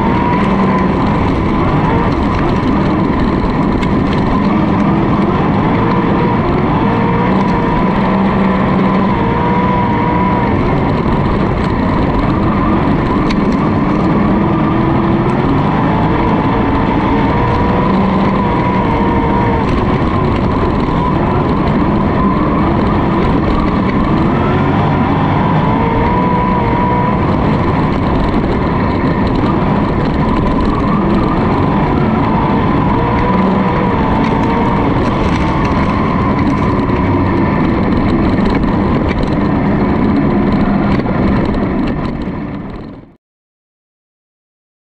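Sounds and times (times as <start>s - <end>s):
other race car engines: 0.0s - 43.2s
race car engine at speed: 0.0s - 43.2s.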